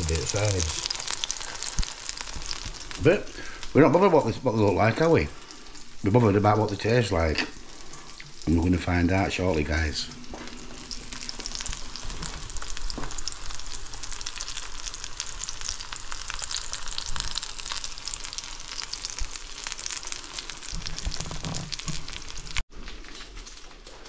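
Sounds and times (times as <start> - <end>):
food sizzling in frying pan: 0.0 - 24.0.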